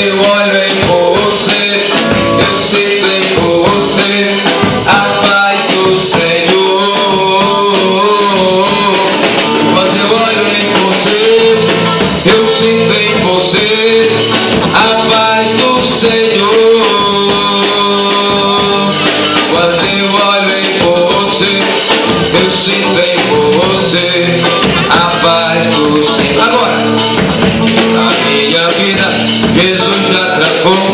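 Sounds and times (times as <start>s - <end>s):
guitar: 0.0s - 30.9s
shaker percussion: 0.0s - 30.9s
upbeat worship music: 0.0s - 30.9s.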